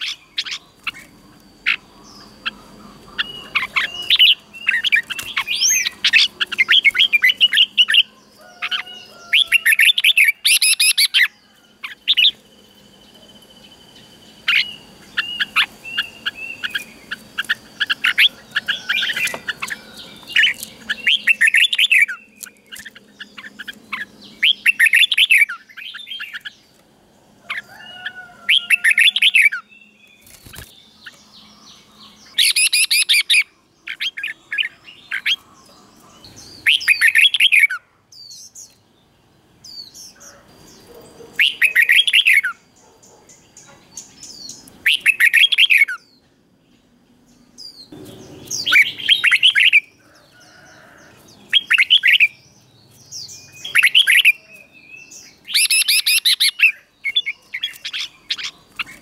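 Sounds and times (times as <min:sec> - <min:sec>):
bulbul singing: 0:00.0 - 0:26.8, 0:27.4 - 0:59.0.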